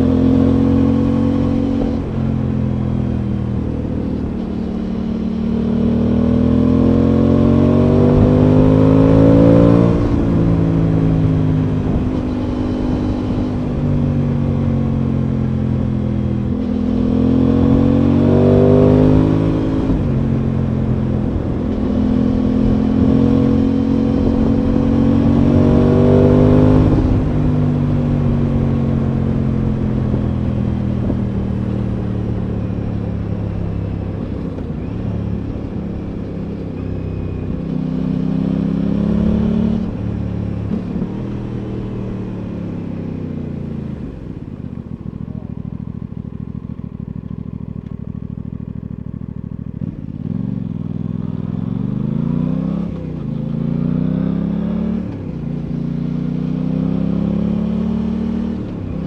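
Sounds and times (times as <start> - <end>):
motorcycle engine revving on road: 0.0 - 59.0.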